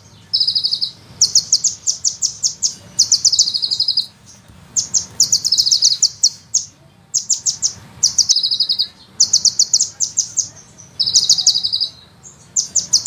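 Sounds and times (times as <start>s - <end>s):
bird singing high chirps: 0.0s - 13.0s
bird trill: 0.0s - 13.0s.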